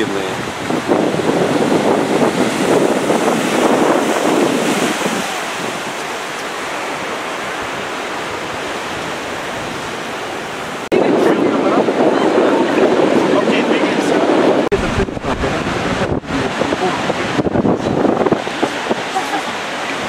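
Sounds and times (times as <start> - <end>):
ocean surf breaking on rocks: 0.0 - 20.0
wind buffeting microphone: 0.0 - 20.0.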